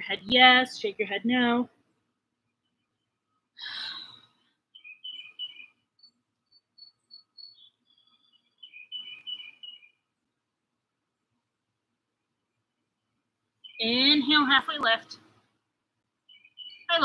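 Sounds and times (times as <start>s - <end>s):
songbird singing: 0.0s - 10.9s, 12.0s - 17.0s.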